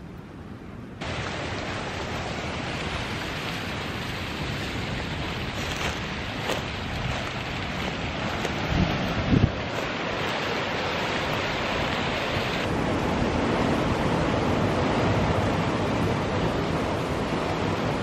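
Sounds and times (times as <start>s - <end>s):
ocean surf: 0.0s - 18.0s
wind on microphone: 1.0s - 18.0s.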